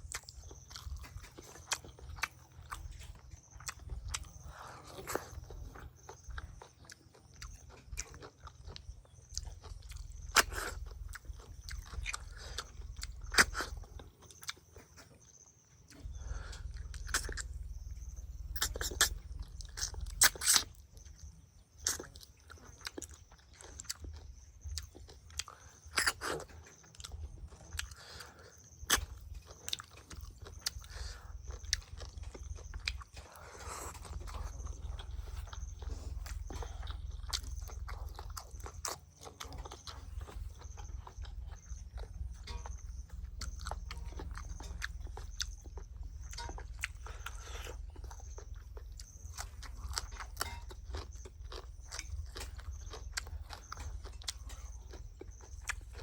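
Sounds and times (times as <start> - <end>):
person chewing crunchily: 0.0 - 56.0.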